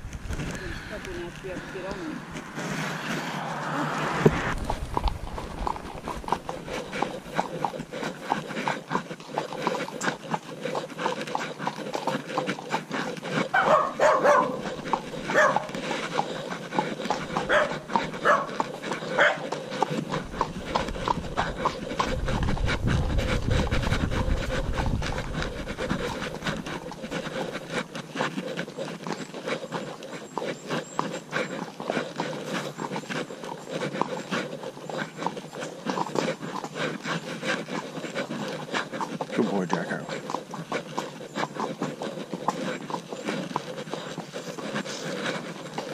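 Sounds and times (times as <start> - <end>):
horse hooves clopping: 0.0 - 45.9.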